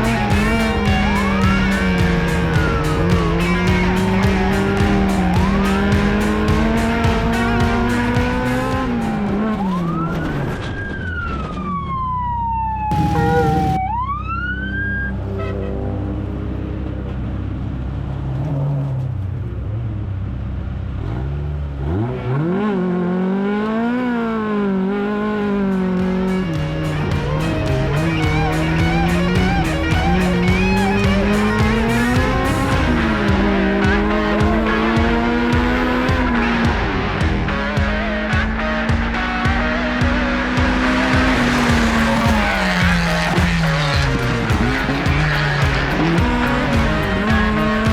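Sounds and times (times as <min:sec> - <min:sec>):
race car engines revving and passing: 0:00.0 - 0:10.8, 0:12.9 - 0:13.8, 0:14.4 - 0:47.9.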